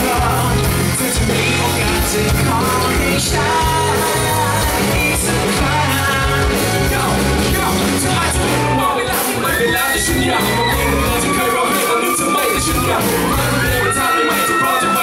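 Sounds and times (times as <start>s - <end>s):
live pop-rock band playing: 0.0s - 15.0s
man singing: 0.0s - 15.0s.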